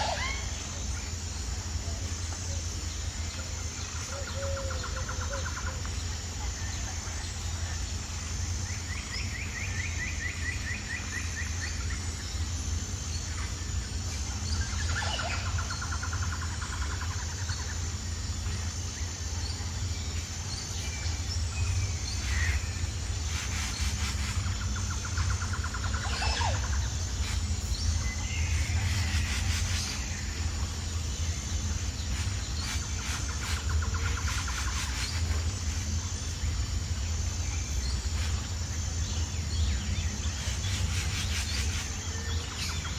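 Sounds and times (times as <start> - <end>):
birds trilling and chirping: 0.0 - 42.9.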